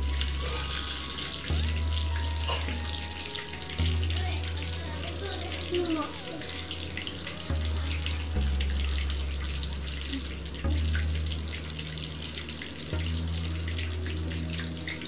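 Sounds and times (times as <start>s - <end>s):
eggplant sizzling in hot oil: 0.0s - 15.0s
low hum: 0.0s - 15.0s.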